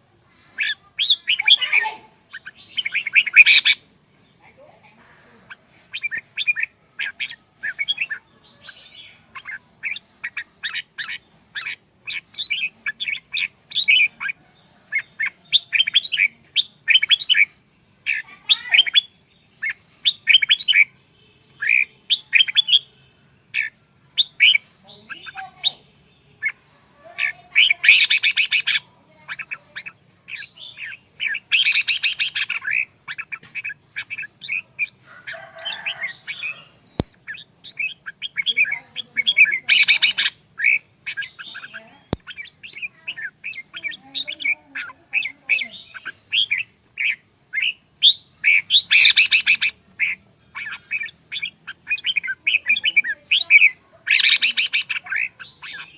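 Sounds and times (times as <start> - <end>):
harsh bird calls: 0.0 - 55.9
bird singing chirping notes: 0.6 - 4.4, 5.5 - 55.9.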